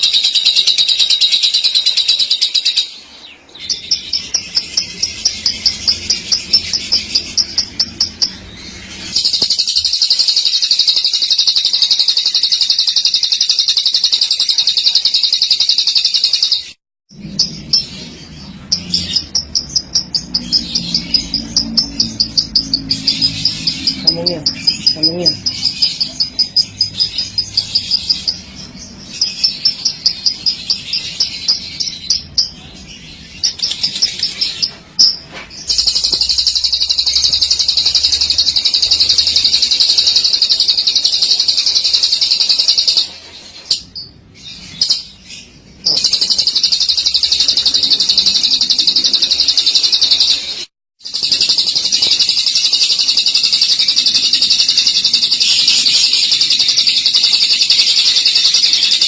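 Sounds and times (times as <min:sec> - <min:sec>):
lovebird chirping and trilling: 0:00.0 - 0:59.0.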